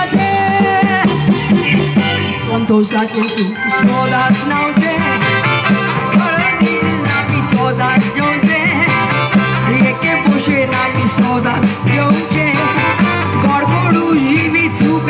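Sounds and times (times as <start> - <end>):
woman singing: 0.0 - 1.4, 2.4 - 15.0
live band with keyboard: 0.0 - 15.0.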